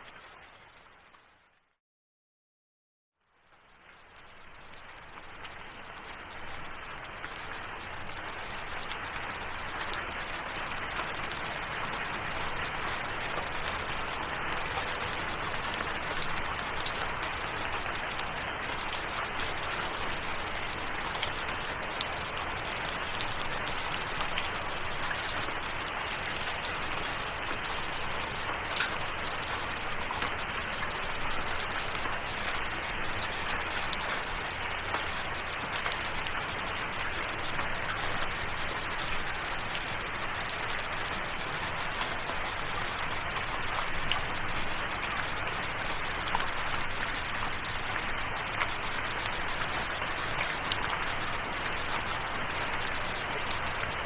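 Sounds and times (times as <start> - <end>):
steady rain: 0.0 - 1.5, 3.2 - 54.0.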